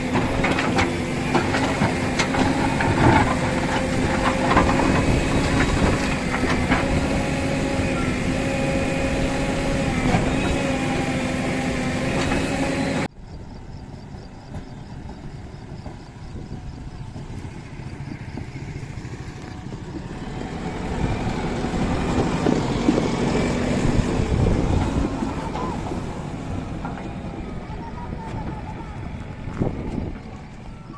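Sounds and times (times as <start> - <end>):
diesel engine of heavy machinery: 0.0 - 30.9.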